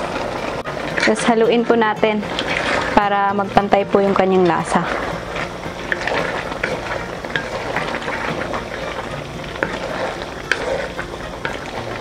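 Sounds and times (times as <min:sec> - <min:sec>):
stew sizzling and bubbling: 0:00.0 - 0:12.0
spatula knocking and scraping wok: 0:00.6 - 0:12.0.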